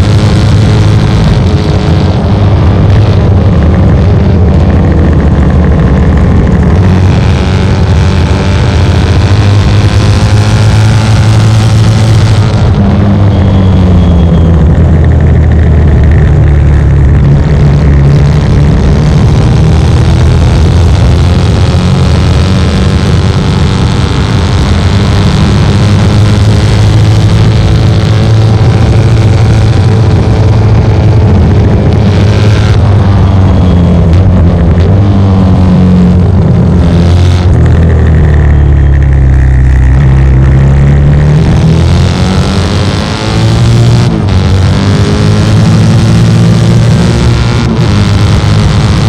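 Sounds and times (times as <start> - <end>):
motorcycle engine running hard: 0.0 - 49.0.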